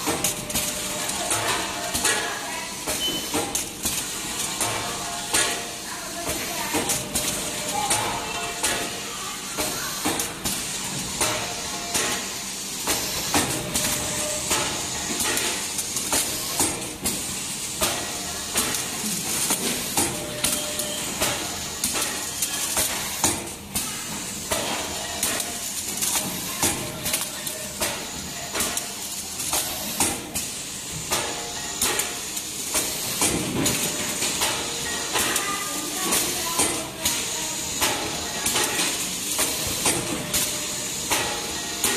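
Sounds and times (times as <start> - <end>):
packing machine hiss: 0.0 - 41.9
sharp mechanical clicks and clacks: 0.0 - 41.9.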